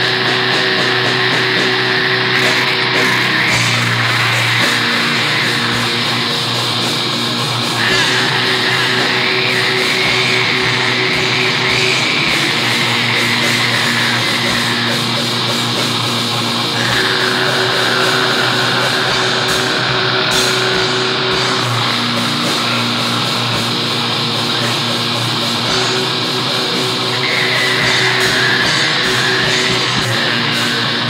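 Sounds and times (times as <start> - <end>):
distorted electric guitars: 0.0 - 31.0.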